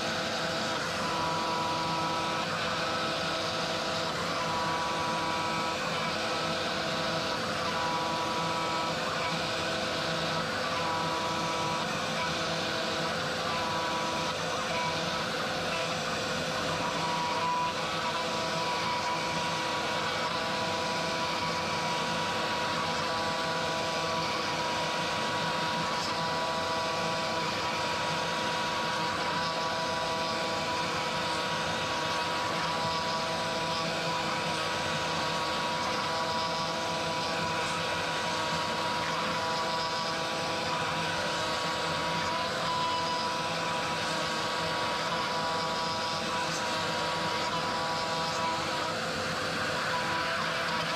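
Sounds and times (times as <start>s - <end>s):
motor tones: 0.0s - 50.9s
router spindle milling wood: 0.0s - 50.9s.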